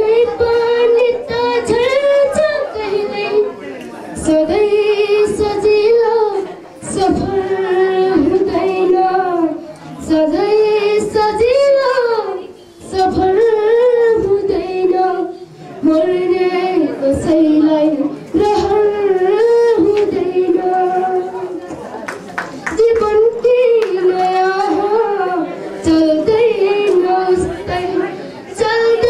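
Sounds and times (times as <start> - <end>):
boy singing: 0.0 - 3.5, 4.2 - 21.5, 22.7 - 29.0.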